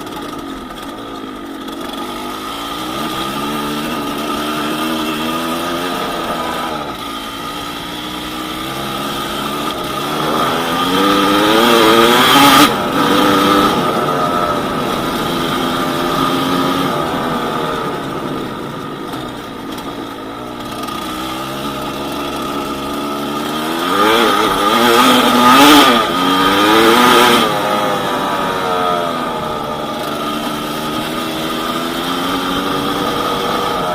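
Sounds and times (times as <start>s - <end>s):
two-stroke motorcycle engine revving: 0.0s - 33.9s.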